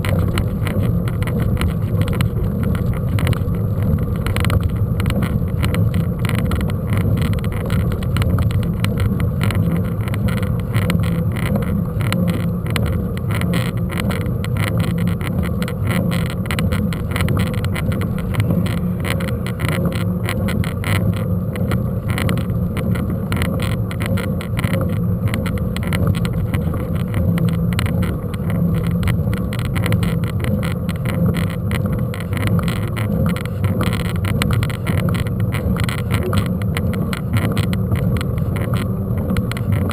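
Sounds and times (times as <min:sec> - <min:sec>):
wind and tyre rumble: 0:00.0 - 0:39.9.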